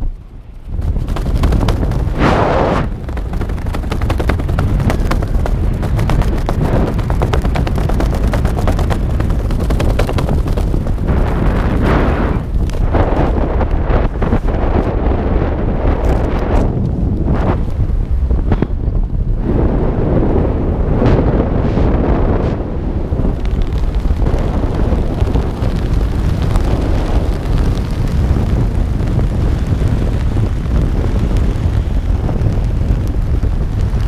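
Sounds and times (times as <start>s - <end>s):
wind buffeting a microphone: 0.0s - 34.0s.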